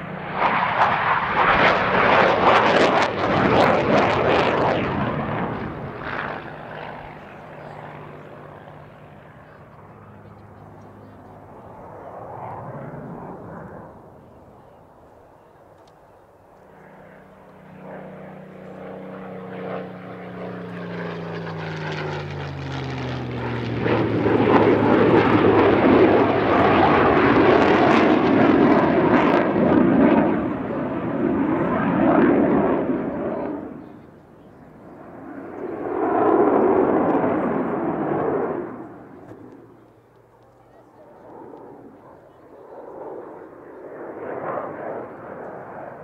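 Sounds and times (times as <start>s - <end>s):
jet aircraft roar: 0.0s - 46.0s.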